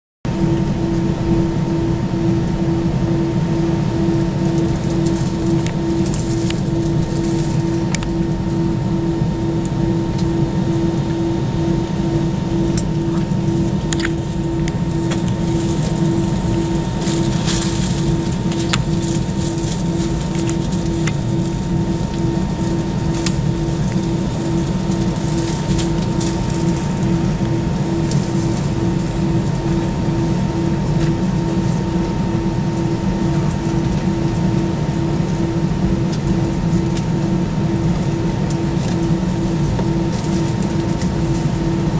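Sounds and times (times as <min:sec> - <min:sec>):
jet engines running at low power: 0:00.3 - 0:41.9
pulsing hum: 0:00.3 - 0:41.9.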